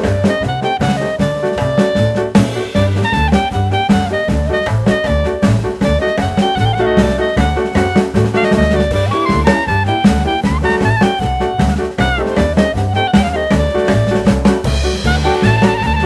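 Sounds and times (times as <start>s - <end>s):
upbeat swing music with horns: 0.0s - 16.0s.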